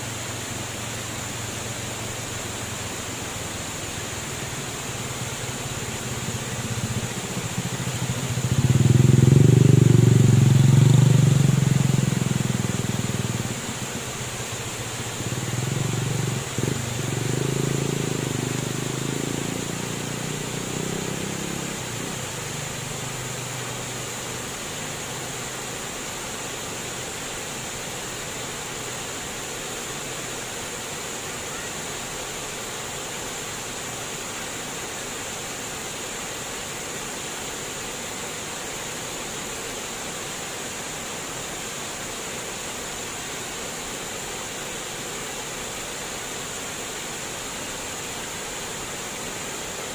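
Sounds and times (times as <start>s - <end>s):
water rushing: 0.0s - 49.9s.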